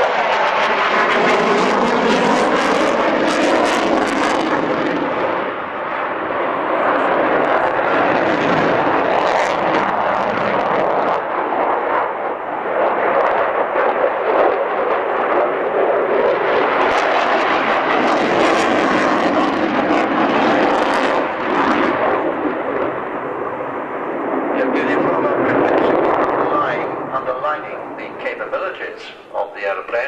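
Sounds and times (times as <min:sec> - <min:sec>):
jet crackling: 0:00.0 - 0:30.0
jet engine roar: 0:00.0 - 0:30.0.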